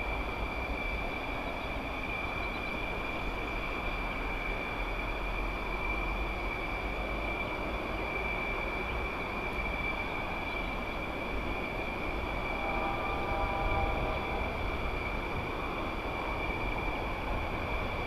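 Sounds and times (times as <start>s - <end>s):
high-pitched turbine whine: 0.0s - 18.0s.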